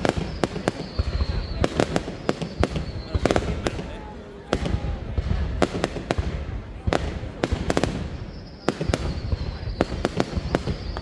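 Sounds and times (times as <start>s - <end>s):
high firework whistle: 0.0s - 5.7s, 7.0s - 11.0s
fireworks bursting: 0.0s - 11.0s.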